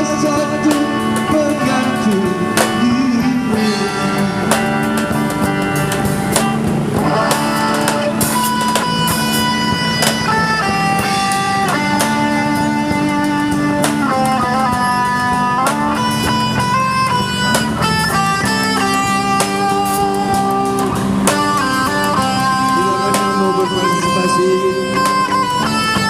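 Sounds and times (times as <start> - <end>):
live band playing pop ballad: 0.0 - 26.0.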